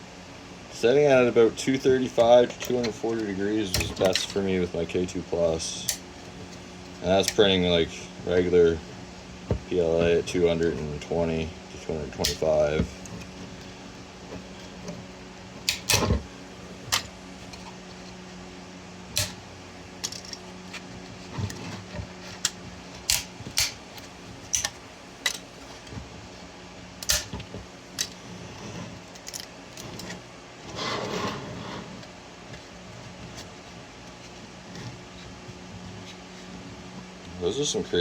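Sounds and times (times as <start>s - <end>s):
scraping rustle: 1.8s - 18.4s, 19.1s - 26.6s, 27.2s - 38.0s.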